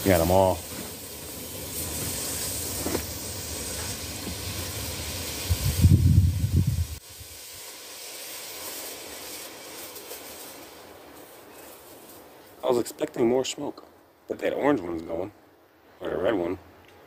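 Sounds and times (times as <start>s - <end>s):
smoke balls hissing: 0.0s - 15.3s.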